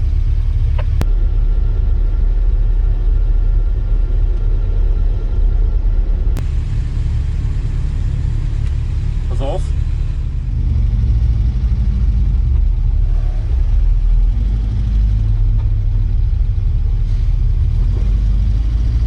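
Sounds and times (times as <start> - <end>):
car engine heard from cabin: 0.0 - 19.0.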